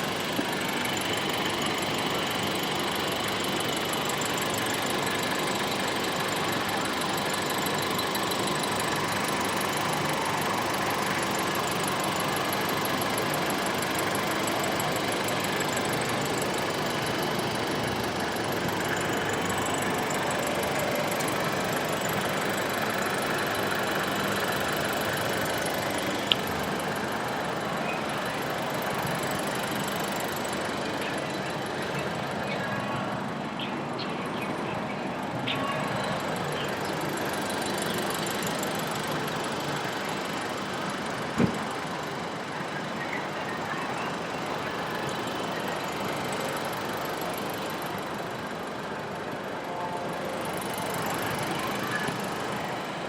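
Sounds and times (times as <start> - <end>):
engine-like running noise: 0.0 - 53.0.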